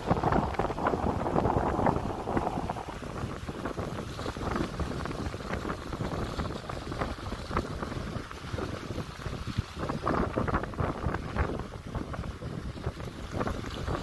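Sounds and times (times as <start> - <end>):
small waves lapping on shore: 0.0 - 14.0
wind buffeting microphone: 0.0 - 14.0.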